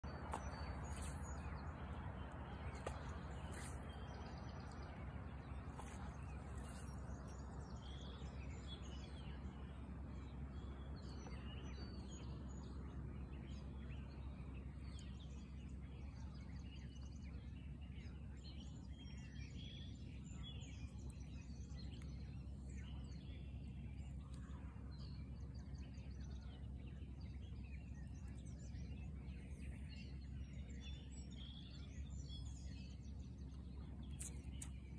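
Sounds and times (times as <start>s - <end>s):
low steady rumble: 0.0s - 34.9s.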